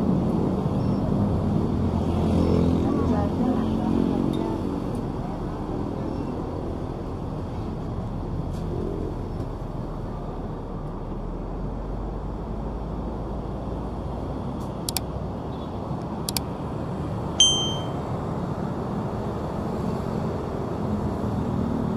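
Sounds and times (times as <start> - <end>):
city road traffic rumble: 0.0 - 21.9.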